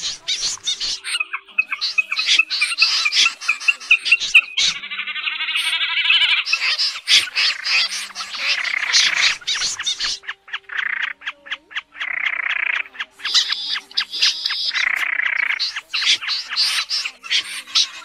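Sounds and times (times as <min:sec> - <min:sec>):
rapid ticking calls: 0:00.0 - 0:18.0
snipe rasping calls: 0:00.0 - 0:18.0.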